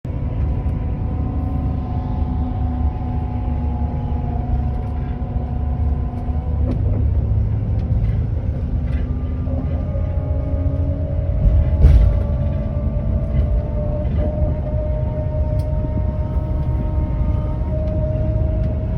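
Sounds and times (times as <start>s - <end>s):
bus engine and road rumble: 0.0s - 18.9s.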